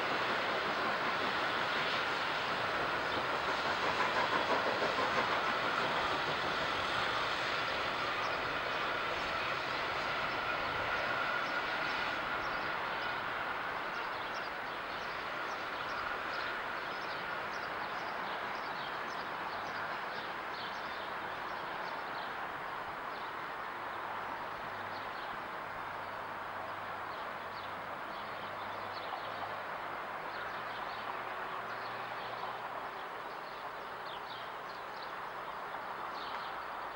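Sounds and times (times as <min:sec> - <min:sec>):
distant steam locomotive rumble: 0:00.0 - 0:36.9.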